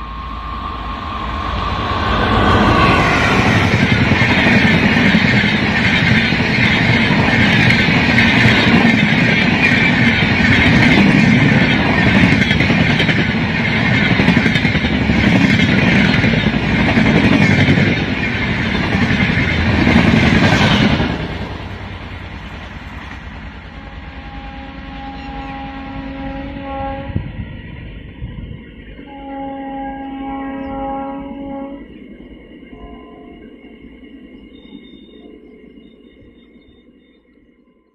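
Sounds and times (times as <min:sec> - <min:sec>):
train wheels rushing on rail: 0:00.0 - 0:37.1
faint train rumble: 0:00.0 - 0:37.9.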